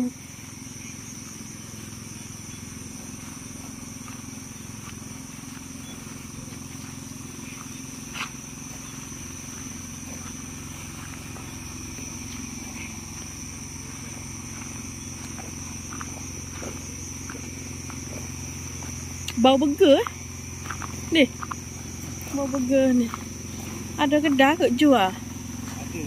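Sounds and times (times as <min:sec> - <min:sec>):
insect drone: 0:00.0 - 0:26.0
low steady hum: 0:00.0 - 0:26.0.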